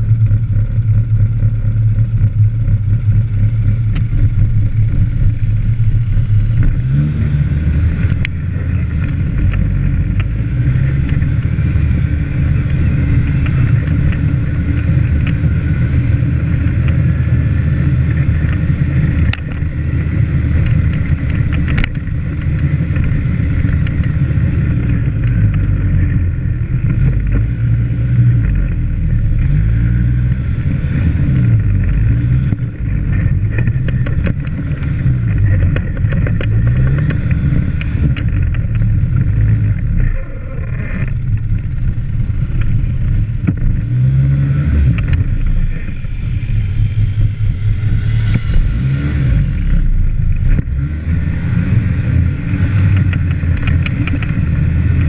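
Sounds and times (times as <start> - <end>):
quad bike engine revving: 0.0 - 55.0
vehicle rattling over bumps: 0.0 - 55.0.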